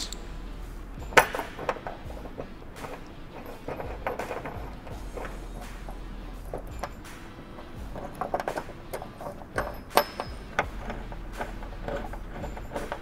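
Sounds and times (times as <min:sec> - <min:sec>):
hand ratchet clicking: 0:00.0 - 0:13.0.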